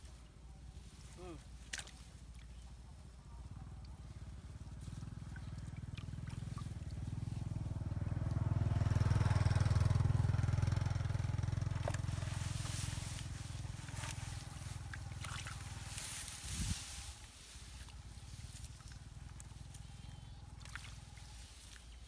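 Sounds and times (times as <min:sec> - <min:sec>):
vehicle engine passing by: 0:03.5 - 0:21.8.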